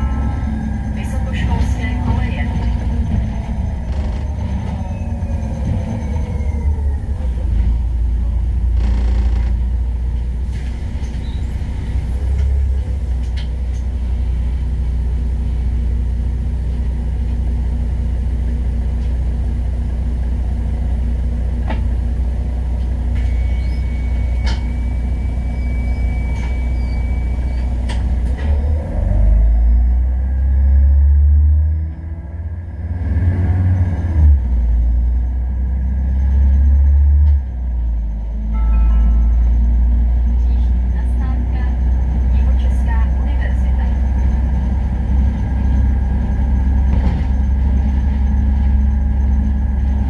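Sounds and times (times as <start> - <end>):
bus drivetrain whine: 0.0 - 50.0
bus engine idling: 0.0 - 50.0.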